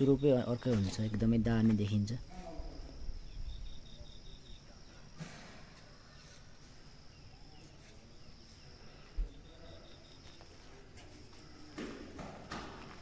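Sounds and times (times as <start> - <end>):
insect chirps: 0.0 - 11.9.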